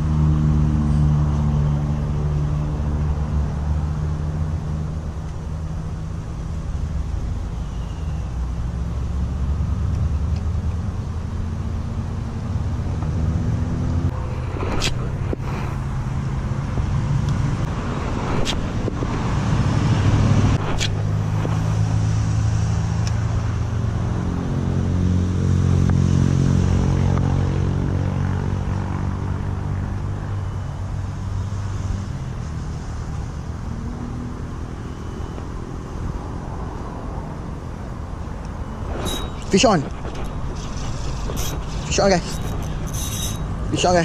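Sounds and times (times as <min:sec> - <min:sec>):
vehicle engines passing: 0:00.0 - 0:44.0.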